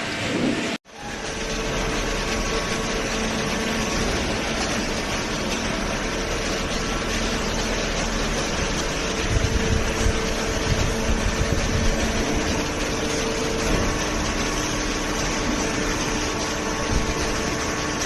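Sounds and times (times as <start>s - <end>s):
hydraulic pump humming: 0.0s - 18.0s.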